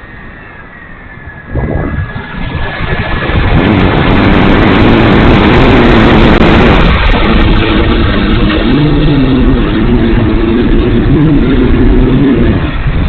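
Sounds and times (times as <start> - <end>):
loud rushing rumble: 0.0 - 13.0.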